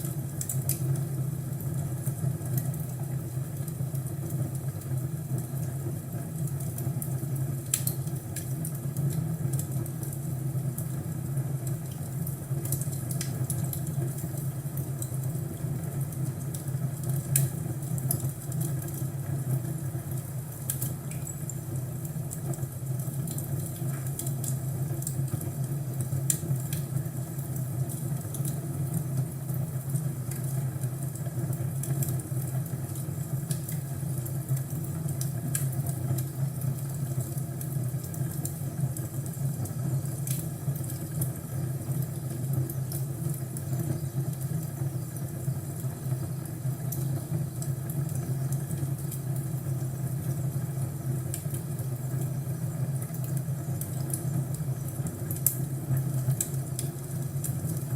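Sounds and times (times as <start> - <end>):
fire pops and crackles: 0.0 - 57.9
fireplace burning rumble: 0.0 - 57.9.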